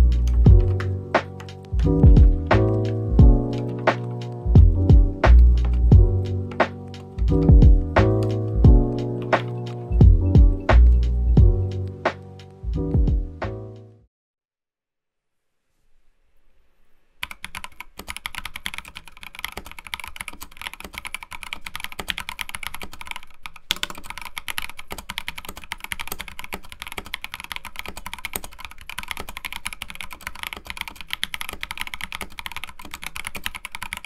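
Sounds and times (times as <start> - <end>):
keyboard typing clacks: 0.0 - 12.5, 17.2 - 34.0.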